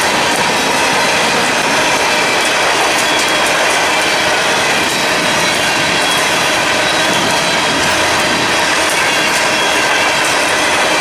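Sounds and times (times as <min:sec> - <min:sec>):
train wheels rumbling and rattling: 0:00.0 - 0:11.0.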